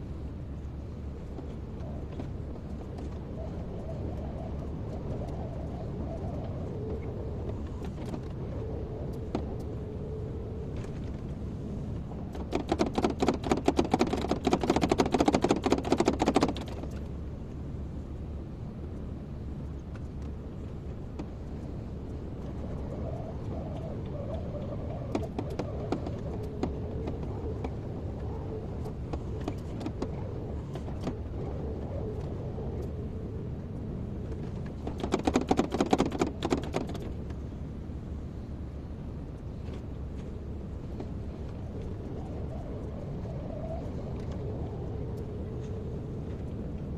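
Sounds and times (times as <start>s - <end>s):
excavator engine hum: 0.0s - 46.9s.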